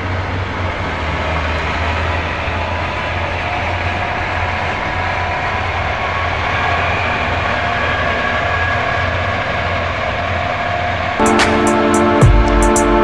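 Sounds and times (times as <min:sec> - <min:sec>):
combine harvester engine hum: 0:00.0 - 0:13.0
machinery whining tones: 0:00.0 - 0:13.0.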